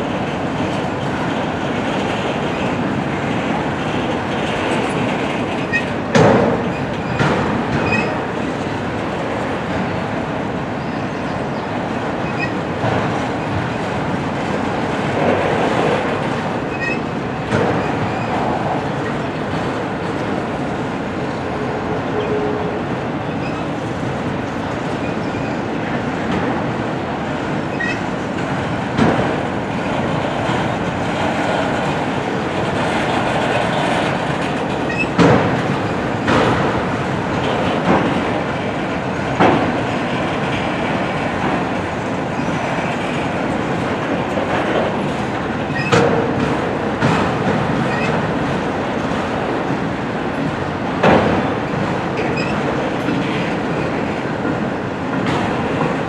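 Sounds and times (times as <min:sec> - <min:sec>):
train rumbling by: 0:00.0 - 0:56.0
wheels clacking over rail joints: 0:00.0 - 0:56.0.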